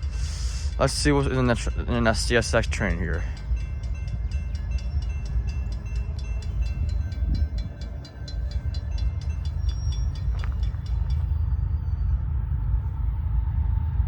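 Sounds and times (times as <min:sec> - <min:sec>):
rapid even ticking: 0:00.0 - 0:11.3
freight train rumbling: 0:00.0 - 0:14.0.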